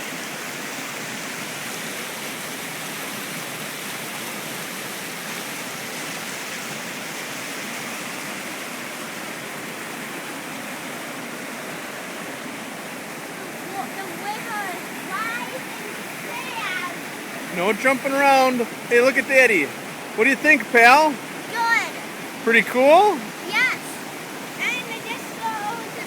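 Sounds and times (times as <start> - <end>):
waterfall pouring: 0.0 - 26.0.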